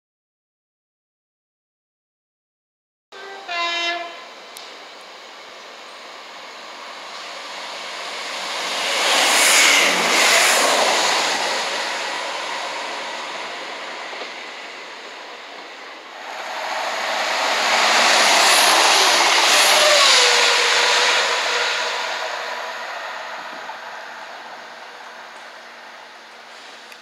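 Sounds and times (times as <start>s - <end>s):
diesel trains passing: 3.2s - 27.0s.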